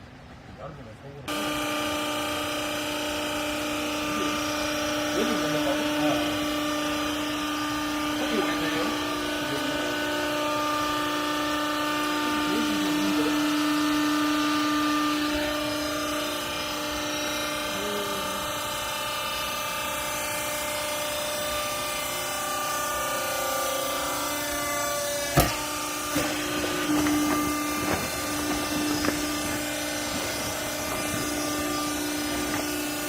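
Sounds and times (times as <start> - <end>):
baler machinery humming: 0.0 - 33.0.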